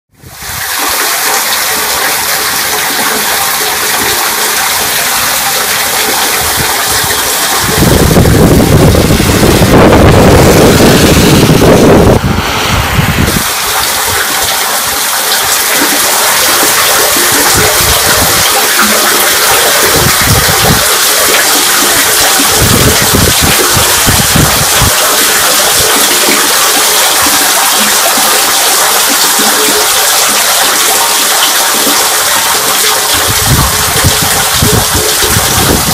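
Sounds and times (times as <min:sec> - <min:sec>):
water rushing into street drain: 0:00.1 - 0:35.9.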